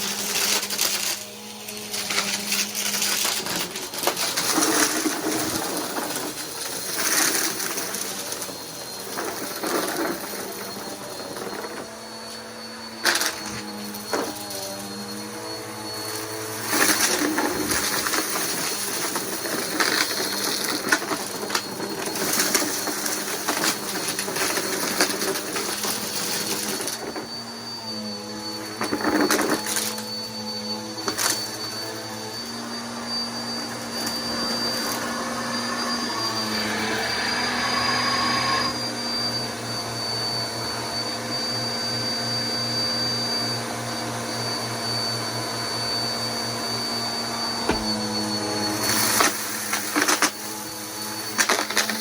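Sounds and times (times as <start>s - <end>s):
vacuum cleaner motor whine: 0.0s - 52.0s.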